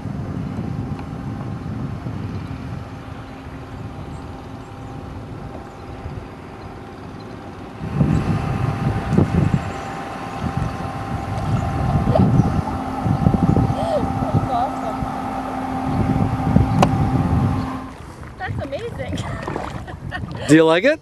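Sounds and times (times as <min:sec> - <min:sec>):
faint steady high hum: 0:00.0 - 0:21.0
wind rumbling on microphone: 0:00.0 - 0:21.0.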